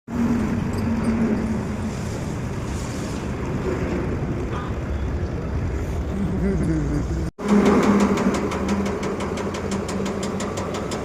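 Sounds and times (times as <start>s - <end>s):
truck diesel engine rumbling: 0.1s - 11.0s.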